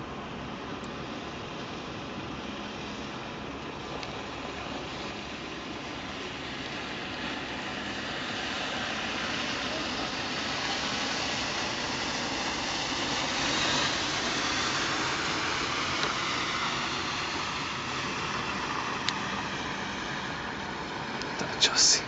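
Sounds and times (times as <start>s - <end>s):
vehicle passing on wet street: 0.0s - 22.0s.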